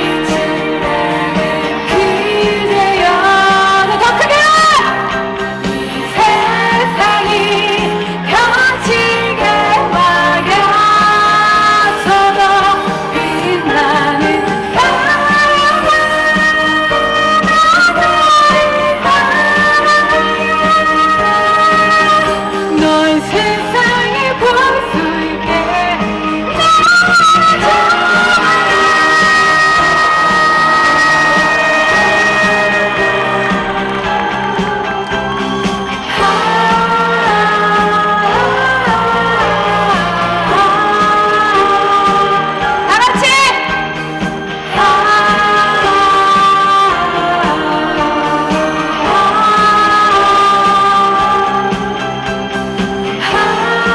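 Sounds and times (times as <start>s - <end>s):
live pop band playing: 0.0s - 53.9s.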